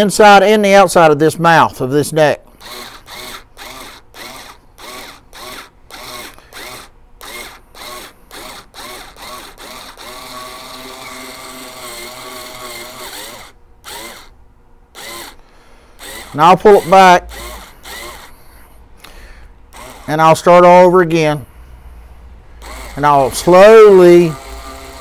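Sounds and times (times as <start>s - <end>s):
drill driver spinning: 2.5s - 20.9s, 22.6s - 25.0s.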